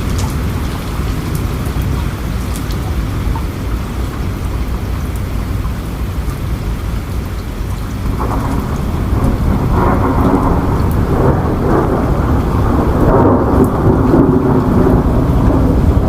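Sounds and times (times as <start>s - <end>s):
steady rain: 0.0s - 16.0s
thunder rumbling: 0.0s - 16.0s.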